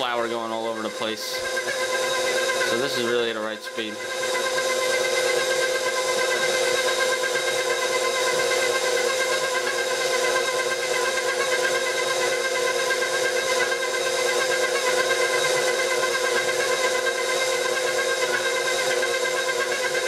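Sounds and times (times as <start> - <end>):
stand mixer motor whining: 0.0 - 20.0.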